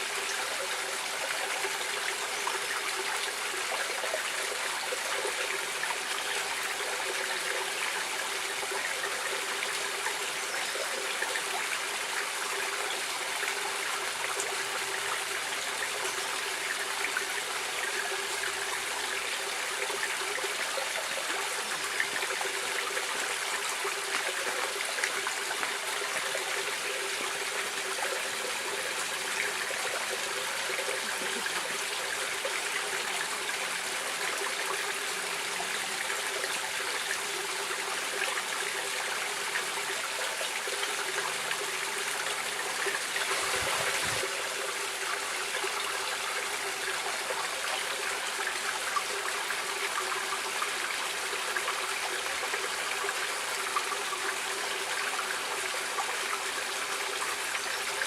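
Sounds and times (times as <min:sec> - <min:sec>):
water running over rocks: 0:00.0 - 0:58.0.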